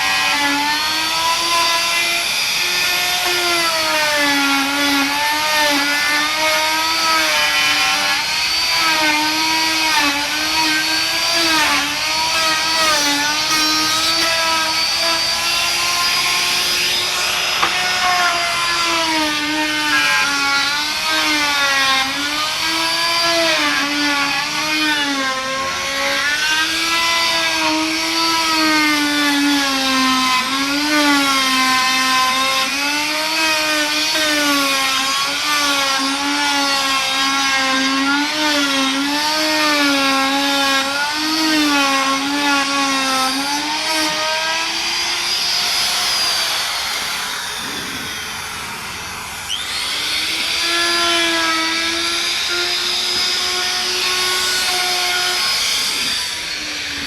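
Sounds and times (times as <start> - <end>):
power tool motor cutting wood: 0.0 - 57.0.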